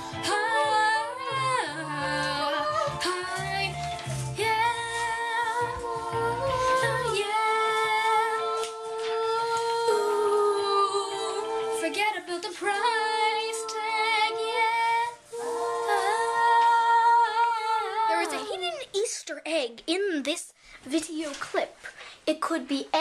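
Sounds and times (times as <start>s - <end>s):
boy singing wordless notes: 0.0s - 19.1s.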